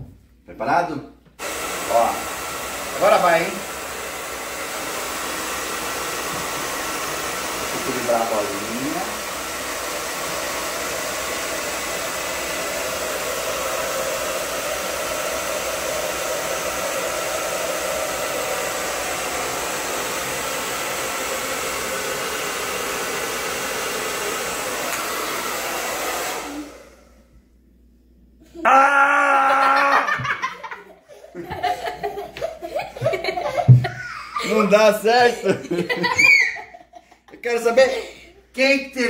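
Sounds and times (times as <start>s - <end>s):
hair dryer running: 1.4s - 27.4s, 29.6s - 39.0s.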